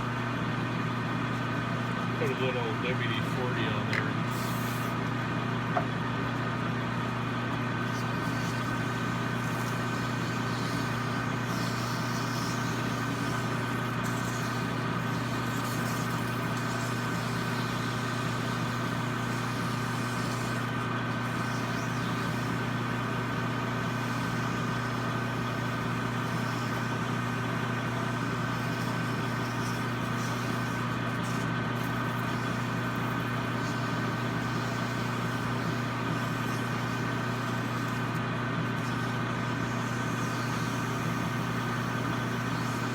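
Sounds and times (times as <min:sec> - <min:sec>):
metal lathe humming: 0:00.0 - 0:42.9.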